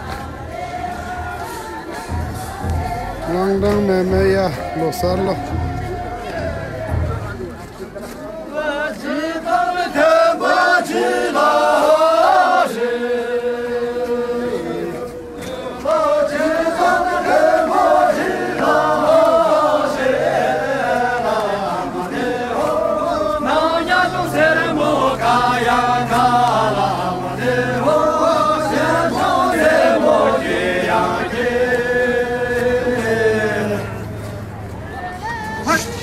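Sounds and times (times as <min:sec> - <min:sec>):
men singing in unison: 0:00.0 - 0:36.0.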